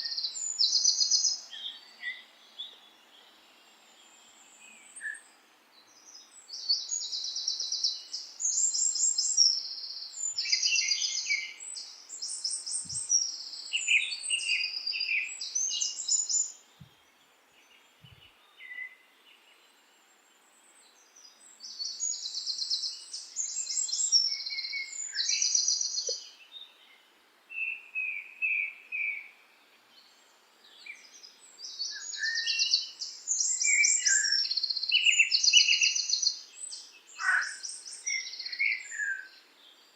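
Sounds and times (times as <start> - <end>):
faint steady hiss: 0.0 - 39.9
small birds singing: 0.0 - 39.9.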